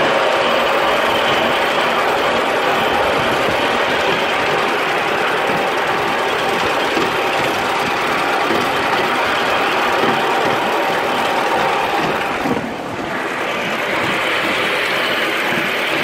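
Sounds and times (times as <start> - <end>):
miniature steam locomotive clatter: 0.0 - 16.0.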